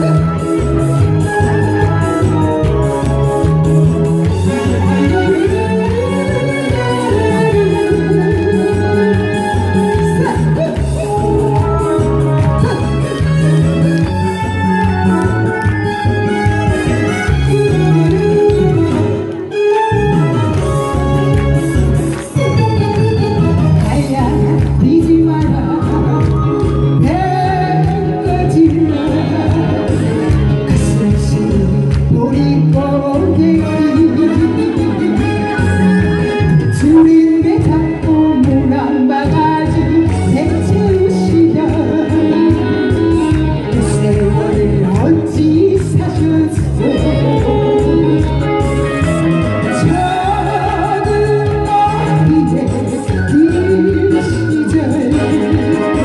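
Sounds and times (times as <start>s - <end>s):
person singing over backing track: 0.0s - 56.0s.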